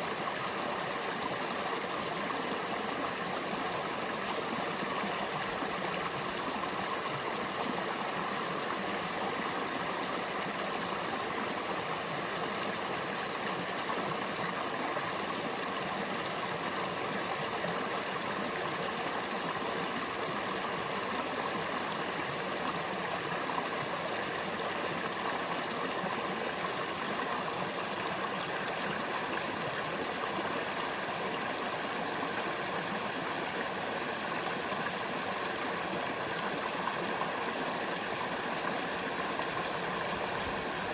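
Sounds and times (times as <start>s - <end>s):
creek water rushing over rocks: 0.0s - 40.9s.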